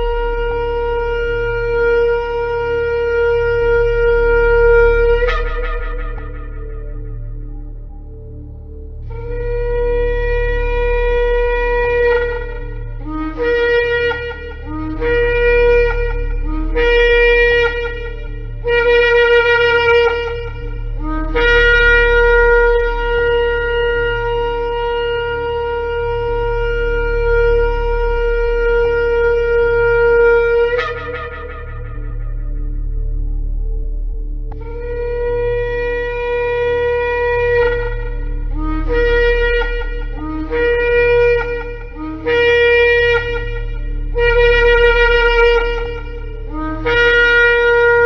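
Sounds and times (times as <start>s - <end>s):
ram's horn blasts: 0.0s - 48.0s.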